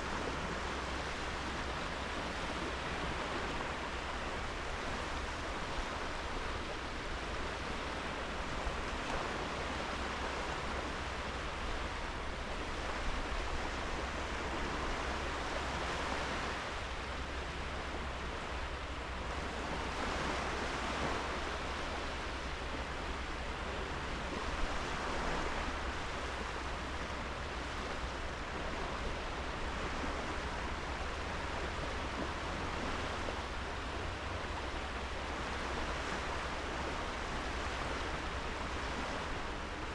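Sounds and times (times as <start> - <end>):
low steady rumble: 0.0 - 39.9
waves breaking on a beach: 0.0 - 39.9.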